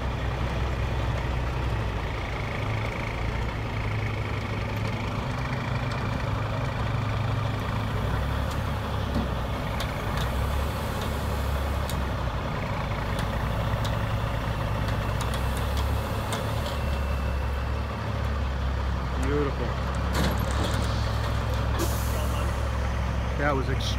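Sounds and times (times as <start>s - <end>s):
diesel engines droning: 0.0s - 23.9s.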